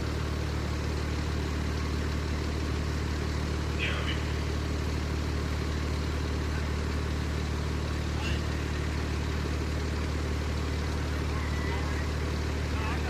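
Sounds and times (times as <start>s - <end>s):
fire truck engine idling: 0.0s - 13.0s.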